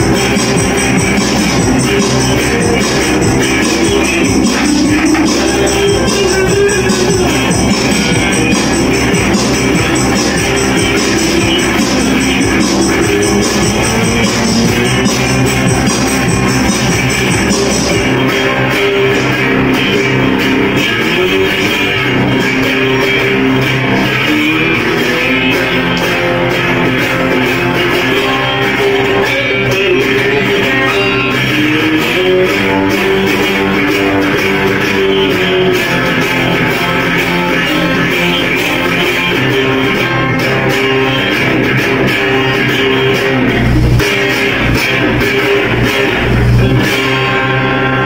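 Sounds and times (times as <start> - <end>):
bass guitar: 0.0 - 48.0
rock band with electric guitar: 0.0 - 48.0.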